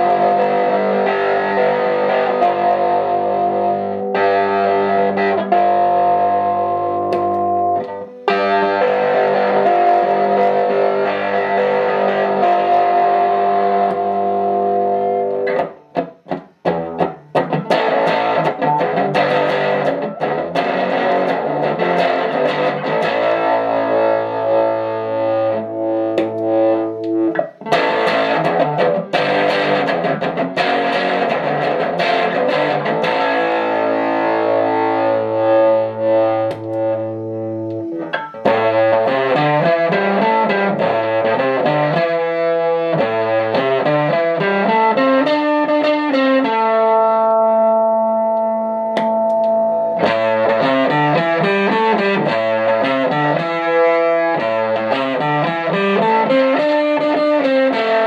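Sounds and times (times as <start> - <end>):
distorted electric guitar: 0.0 - 58.0.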